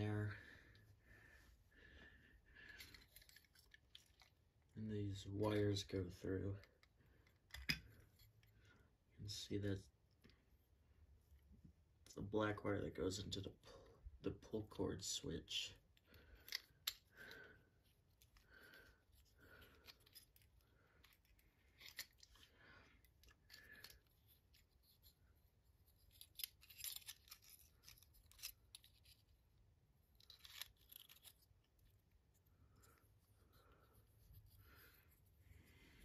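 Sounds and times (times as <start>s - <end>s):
wires rustling and scraping: 0.0s - 13.5s, 14.5s - 36.0s.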